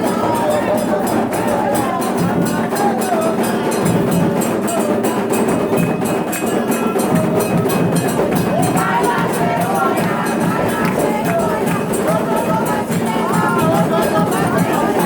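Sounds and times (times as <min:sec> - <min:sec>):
hand drums: 0:00.0 - 0:15.0
struck percussion beat: 0:00.0 - 0:15.0
voices singing: 0:00.0 - 0:15.0.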